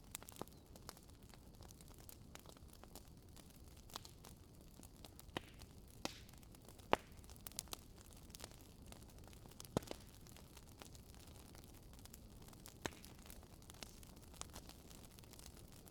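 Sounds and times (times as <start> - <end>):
wood fire crackling and popping: 0.0 - 15.9.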